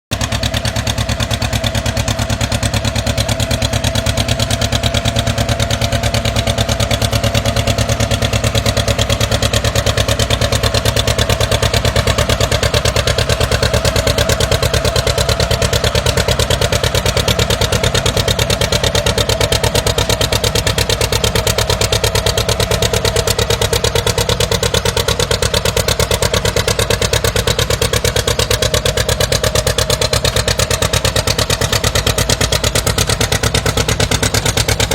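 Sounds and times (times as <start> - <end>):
tractor engine pulsing drone: 0.1 - 34.9.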